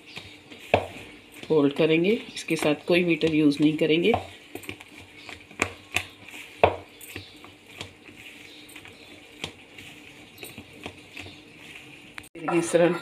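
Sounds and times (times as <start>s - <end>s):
batter squishing: 0.0s - 12.3s.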